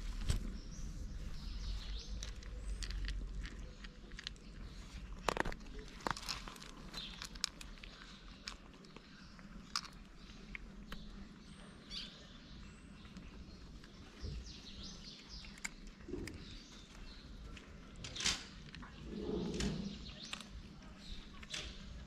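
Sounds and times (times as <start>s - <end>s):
birds chirping: 0.0s - 22.0s
cats crunching dry kibble: 0.0s - 22.0s.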